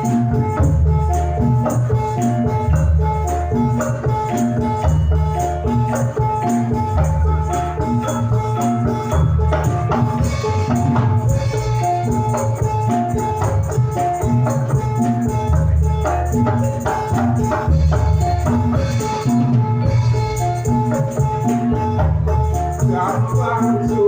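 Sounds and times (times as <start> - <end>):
heavy drum and bass: 0.0 - 24.0
jingling percussion: 0.0 - 24.0
ringing metallophone notes: 0.0 - 24.0.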